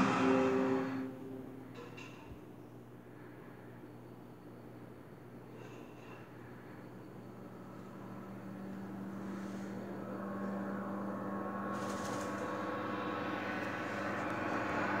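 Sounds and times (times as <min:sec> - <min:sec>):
low hum of held tones: 0:00.0 - 0:15.0.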